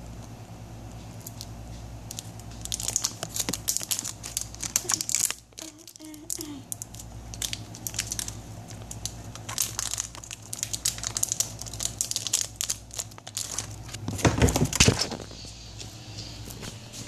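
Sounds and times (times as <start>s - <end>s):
rustling and crinkling handling noise: 1.0s - 17.0s.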